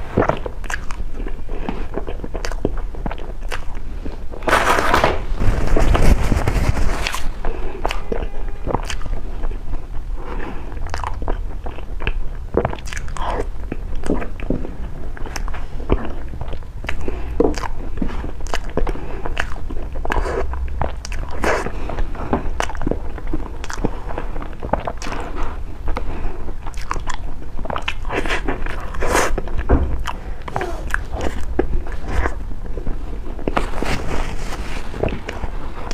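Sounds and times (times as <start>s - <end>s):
wet chewing of cake: 0.0s - 35.9s
lip-smacks and clicks: 0.2s - 4.4s, 7.8s - 10.1s, 10.7s - 14.6s, 15.2s - 33.6s.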